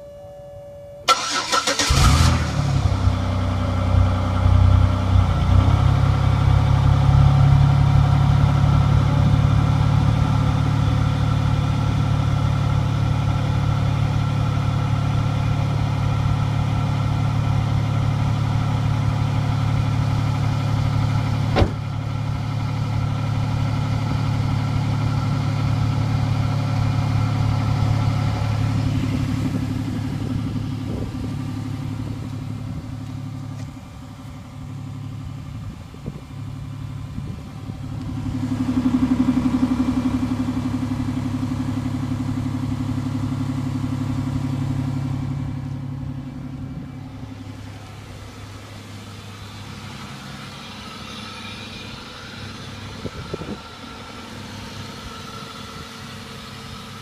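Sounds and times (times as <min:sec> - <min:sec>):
car engine starting and idling: 0:01.0 - 0:57.0.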